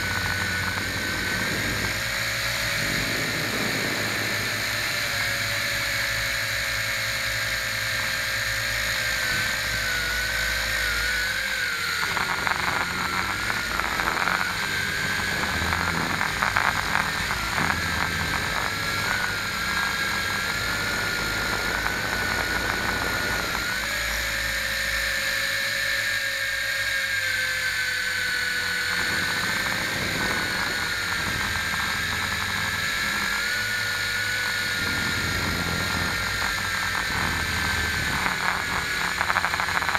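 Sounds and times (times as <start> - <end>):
drone propellers whining: 0.0 - 39.9
rough buffeting with crackles: 0.0 - 39.9.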